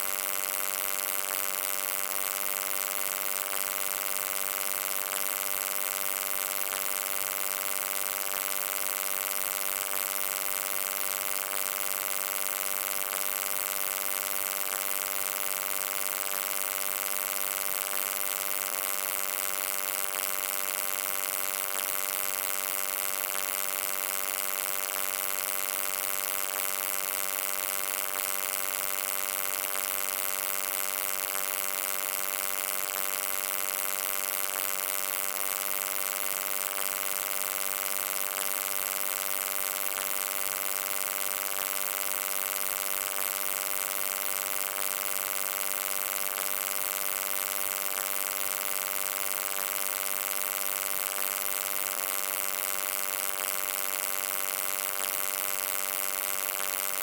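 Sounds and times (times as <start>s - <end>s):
electric hum with hiss: 0.0s - 57.0s.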